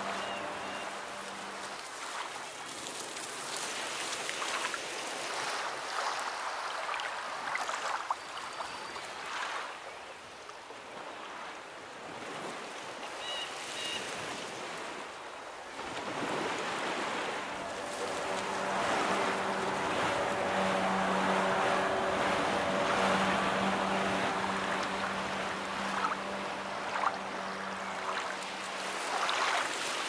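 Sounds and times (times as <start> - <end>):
ocean waves breaking: 0.0 - 8.1, 10.8 - 30.0.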